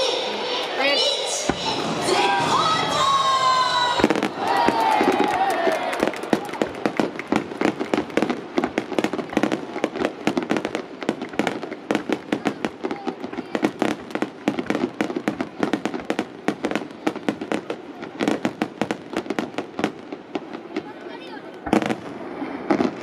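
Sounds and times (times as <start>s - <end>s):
fireworks bangs and cracks: 0.0s - 23.0s.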